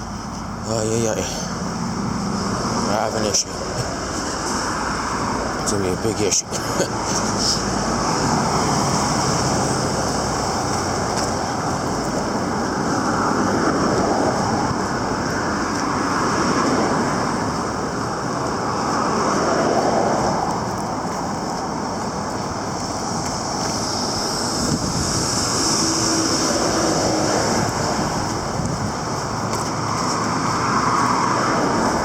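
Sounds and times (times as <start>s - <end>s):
road traffic passing: 0.0s - 32.0s.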